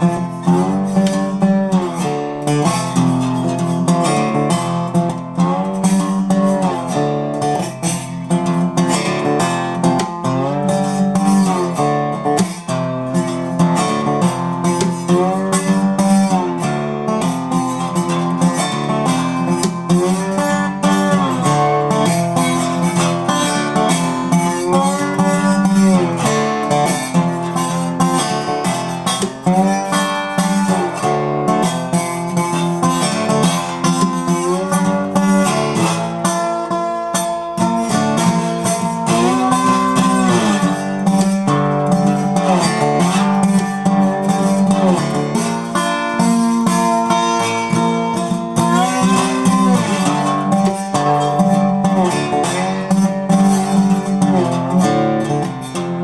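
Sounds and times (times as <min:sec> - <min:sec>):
acoustic guitar bluesy riff: 0:00.0 - 0:56.0.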